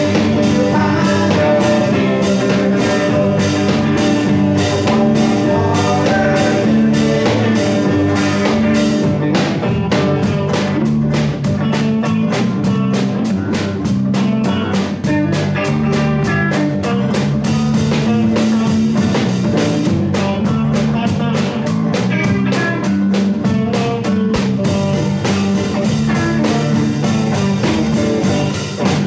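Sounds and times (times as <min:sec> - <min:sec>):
drum kit beat: 0:00.0 - 0:29.0
electric bass: 0:00.0 - 0:29.0
electric guitar: 0:00.0 - 0:29.0.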